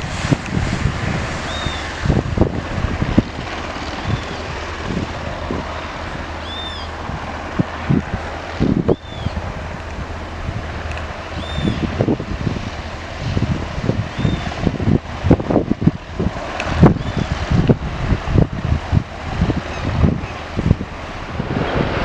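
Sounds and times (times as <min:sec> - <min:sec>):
aircraft engine hum: 0:00.0 - 0:22.0
wind buffeting microphone: 0:00.0 - 0:22.0.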